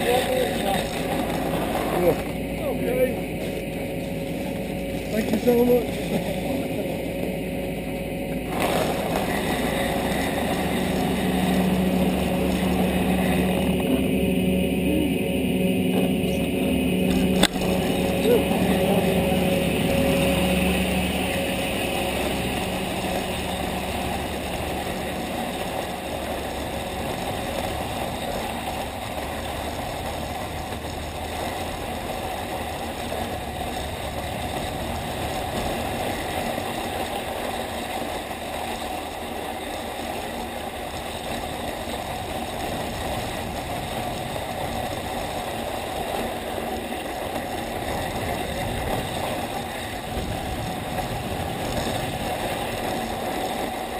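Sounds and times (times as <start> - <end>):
skis sliding over snow: 0.0 - 7.4, 8.4 - 14.2, 15.9 - 53.9
low hum: 0.0 - 53.9.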